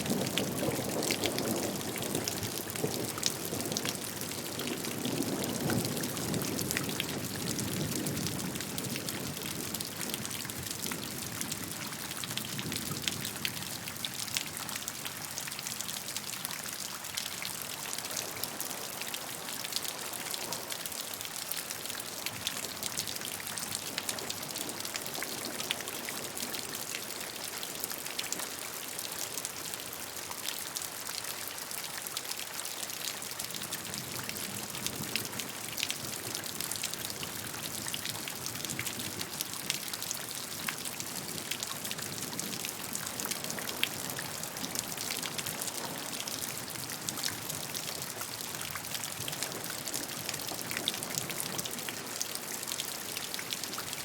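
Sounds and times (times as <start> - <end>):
raindrops pattering on a surface: 0.0 - 54.0.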